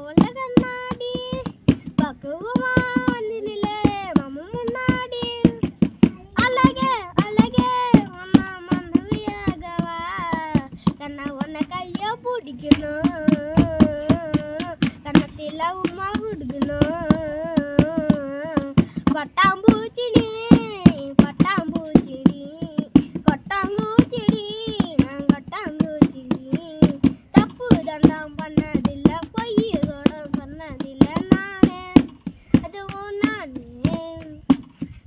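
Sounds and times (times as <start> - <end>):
child singing: 0.0 - 34.8
hand-beaten taps: 0.1 - 35.0.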